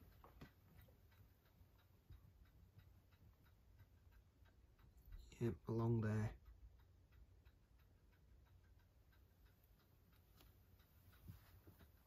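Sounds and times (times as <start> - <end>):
faint ticking: 0.0 - 12.0.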